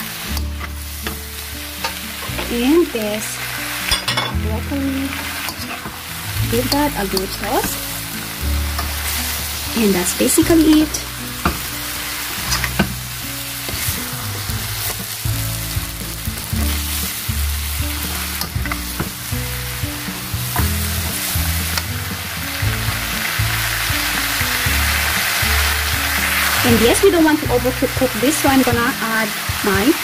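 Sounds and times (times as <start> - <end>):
background music: 0.0 - 30.0
stir fry sizzling in a pan: 0.0 - 30.0.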